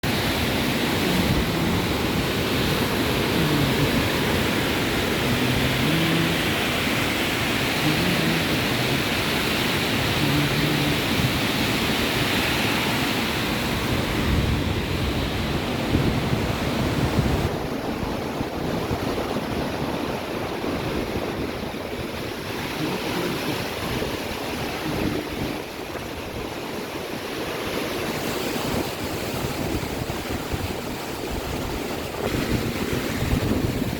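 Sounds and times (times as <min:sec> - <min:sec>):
river rushing: 0:00.0 - 0:33.9
wind on microphone: 0:00.0 - 0:33.9.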